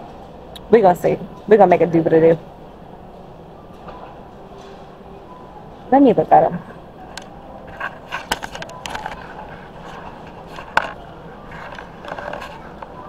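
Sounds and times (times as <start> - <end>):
store background noise: 0.0 - 13.0.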